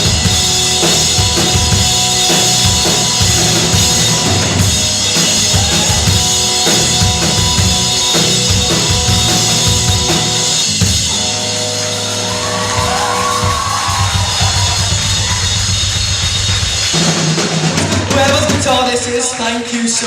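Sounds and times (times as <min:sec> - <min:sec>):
electric guitar notes: 0:00.0 - 0:17.4
drum kit: 0:00.0 - 0:19.9.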